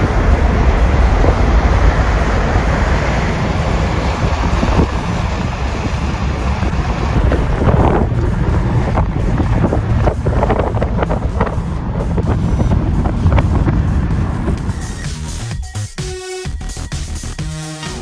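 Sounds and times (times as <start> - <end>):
wind buffeting microphone: 0.0 - 15.6
helicopter rumble: 0.0 - 17.6.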